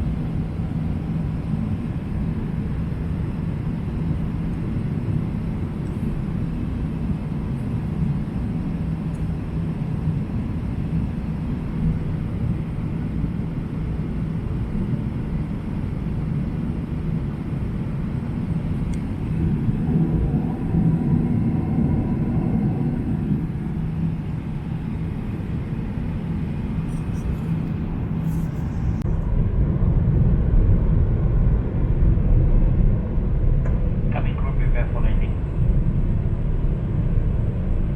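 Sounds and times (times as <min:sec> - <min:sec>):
airliner cabin engine rumble: 0:00.0 - 0:37.9
constant low hum: 0:00.0 - 0:37.9.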